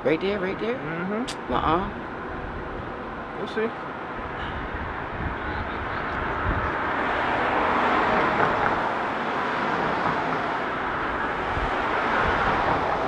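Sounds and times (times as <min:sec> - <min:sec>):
vehicle passing on road: 0:01.4 - 0:13.0.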